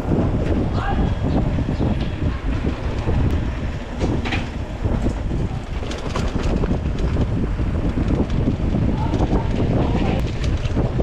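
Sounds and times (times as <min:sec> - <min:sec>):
bike rattling over rough road: 0:00.0 - 0:11.0
wind buffeting microphone: 0:00.0 - 0:11.0.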